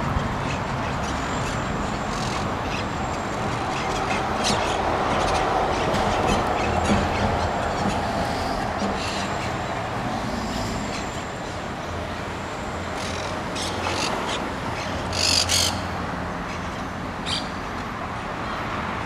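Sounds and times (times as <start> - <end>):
low hum of city traffic: 0.0 - 19.0
parakeets calling: 0.4 - 17.7.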